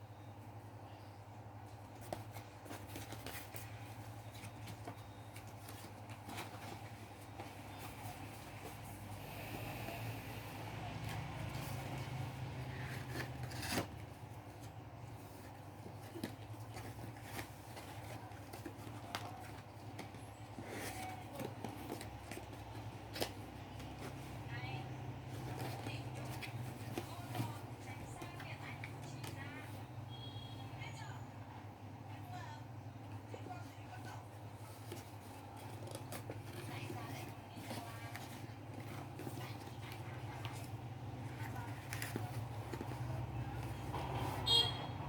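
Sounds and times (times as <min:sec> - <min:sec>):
steady low hum: 0:00.0 - 0:45.0
paper rustling: 0:01.6 - 0:09.6, 0:10.6 - 0:29.9, 0:33.5 - 0:44.6.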